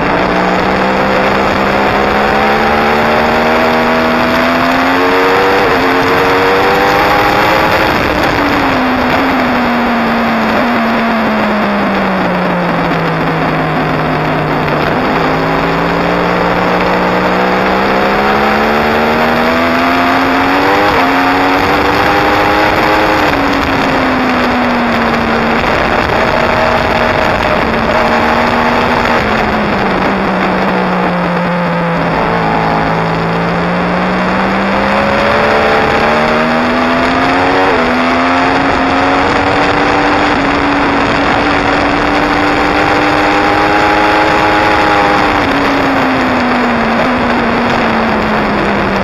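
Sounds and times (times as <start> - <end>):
motorcycle engine at speed: 0.0 - 49.0
wind rush: 0.0 - 49.0.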